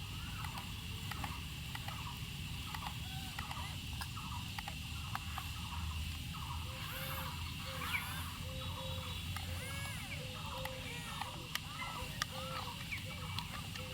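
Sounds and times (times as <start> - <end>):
high insect drone: 0.0 - 13.9.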